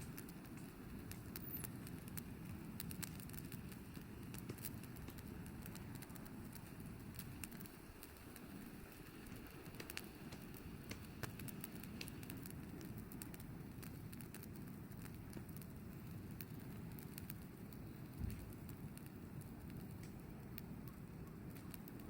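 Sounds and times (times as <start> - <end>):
campfire crackling and popping: 0.0 - 22.0
fire low rumble: 0.0 - 22.0.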